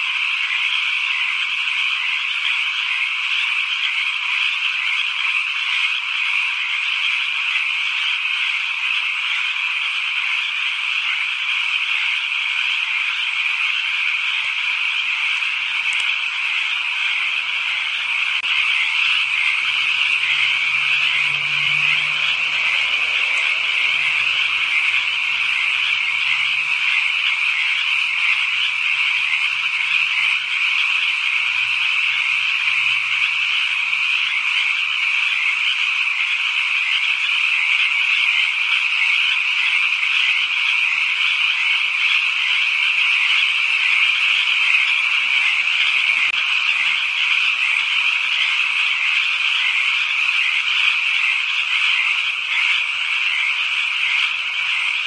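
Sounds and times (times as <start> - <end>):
deeper frog calls: 0.0 - 55.0
frog chorus trilling: 0.0 - 55.0.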